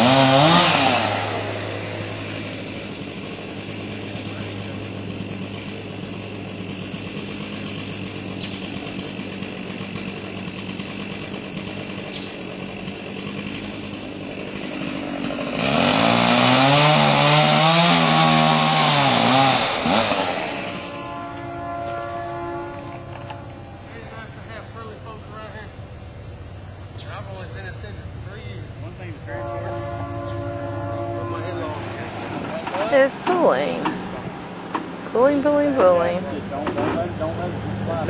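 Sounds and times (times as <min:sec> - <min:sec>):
chainsaw cutting: 0:00.0 - 0:25.3, 0:31.3 - 0:36.5.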